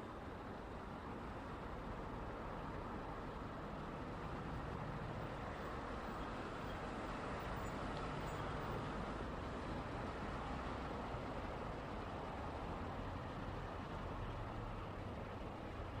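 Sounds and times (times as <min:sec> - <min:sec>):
road traffic passing: 0:00.2 - 0:16.0.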